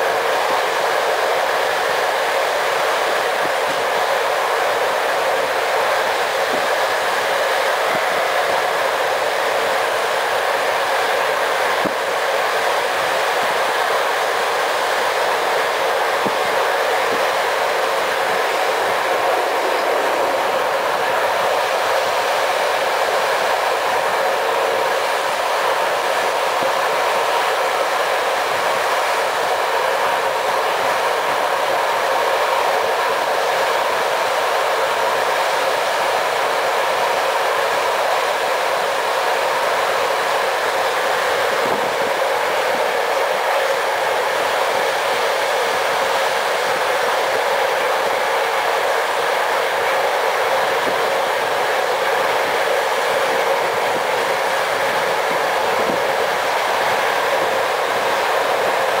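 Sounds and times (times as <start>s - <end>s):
train wheels running on track: 0.0s - 59.0s.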